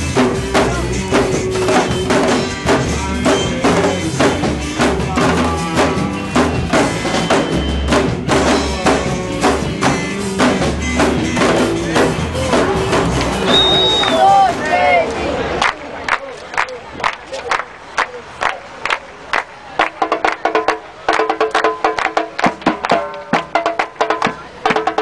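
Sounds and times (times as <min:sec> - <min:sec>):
percussion-led music with bass: 0:00.0 - 0:14.6, 0:19.4 - 0:25.0.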